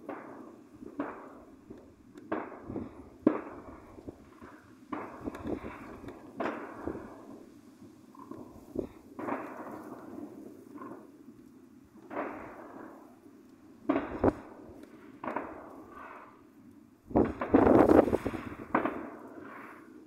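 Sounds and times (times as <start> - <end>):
fireworks bangs with echo: 0.0 - 7.6, 8.2 - 11.2, 12.0 - 13.2, 13.8 - 16.4, 17.1 - 20.0
crackling firework reports: 0.0 - 20.0.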